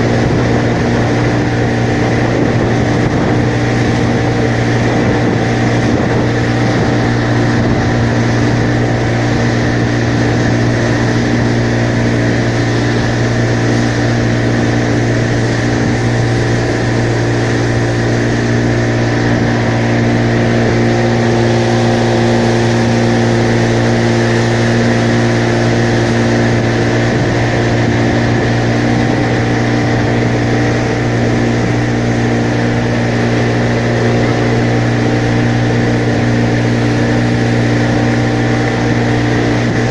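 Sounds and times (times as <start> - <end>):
engine running with low hum: 0.0 - 39.9.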